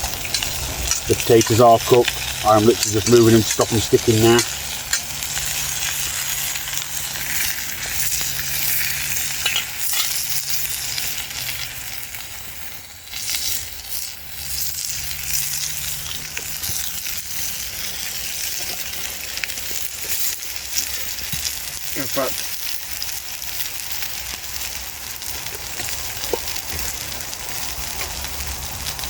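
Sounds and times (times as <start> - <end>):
food sizzling in a frying pan: 0.0 - 29.0
sharp clicks and crackles: 0.0 - 29.0.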